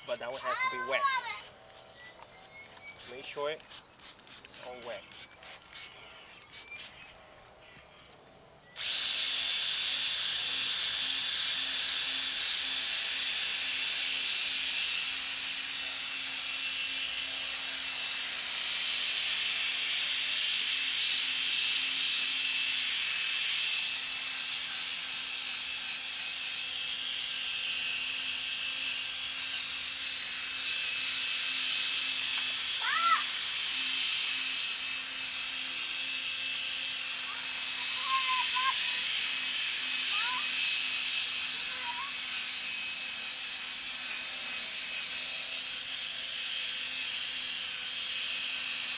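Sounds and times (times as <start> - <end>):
electric drill sanding plastic: 0.0 - 7.2, 8.8 - 48.9.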